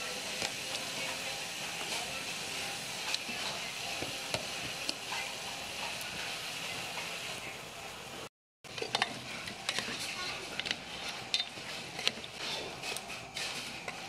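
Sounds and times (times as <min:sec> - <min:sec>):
beef sizzling in hot oil: 0:00.0 - 0:14.0.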